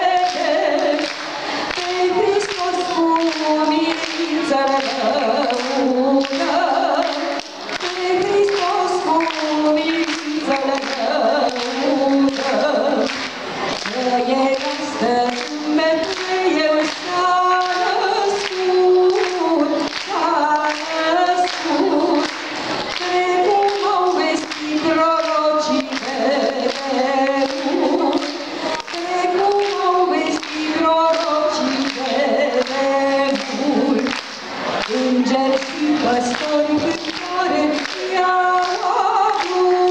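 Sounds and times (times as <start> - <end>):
woman singing through a microphone: 0.0 - 39.9.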